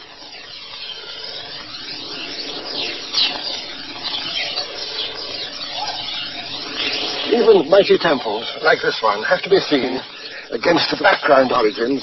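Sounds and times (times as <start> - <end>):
swirling whooshing noise: 0.0 - 12.0.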